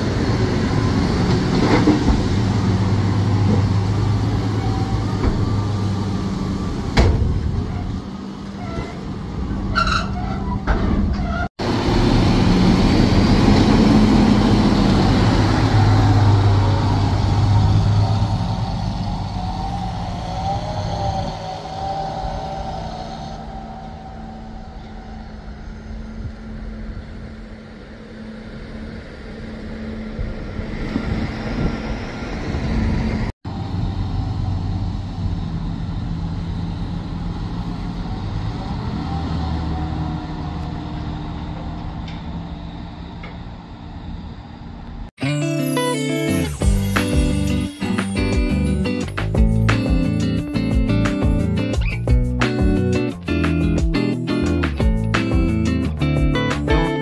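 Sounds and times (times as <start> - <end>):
diesel tractor engines: 0.0 - 57.0.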